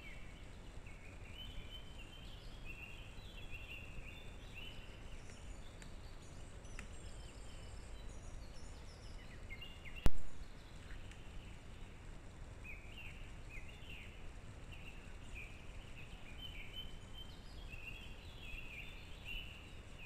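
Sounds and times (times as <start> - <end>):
low background rumble: 0.0 - 20.0
small birds chirping: 0.0 - 20.0.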